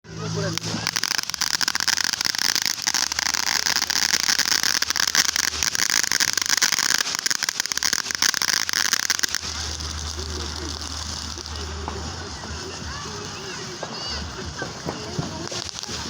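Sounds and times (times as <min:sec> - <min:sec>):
firework fountain hissing and crackling: 0:00.0 - 0:16.0.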